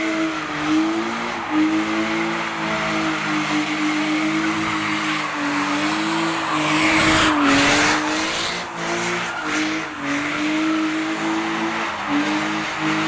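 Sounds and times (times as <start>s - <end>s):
car engine at high revs: 0.0s - 13.0s
tyres screeching: 0.7s - 13.0s.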